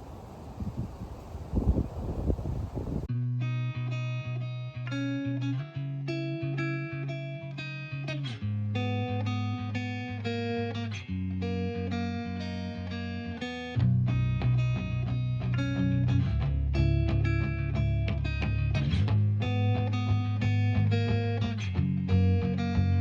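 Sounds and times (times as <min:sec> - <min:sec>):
guitar background music: 0:03.1 - 0:23.0.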